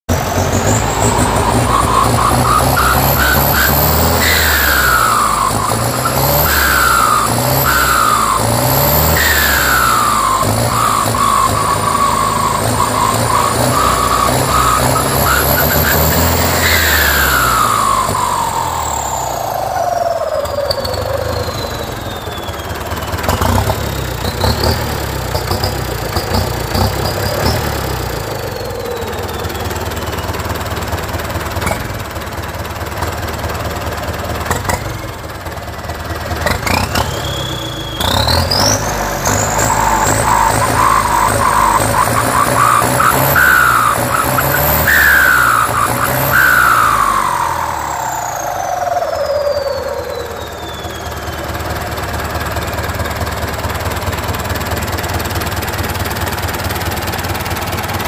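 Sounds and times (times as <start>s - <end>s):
tractor diesel engine revving: 0.0s - 58.0s
turbo whine: 0.1s - 32.0s, 36.5s - 54.3s.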